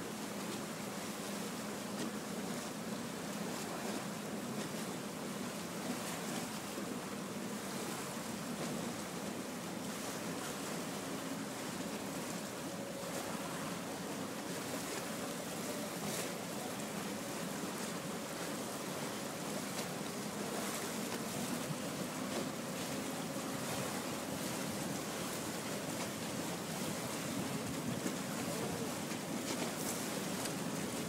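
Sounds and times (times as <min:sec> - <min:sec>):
water wash: 0:00.0 - 0:31.0.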